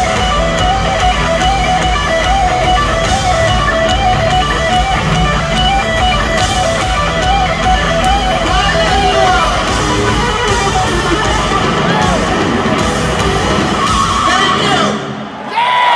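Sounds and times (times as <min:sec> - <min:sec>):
distorted electric guitar lead: 0:00.0 - 0:15.3
heavy metal band playing live: 0:00.0 - 0:15.3.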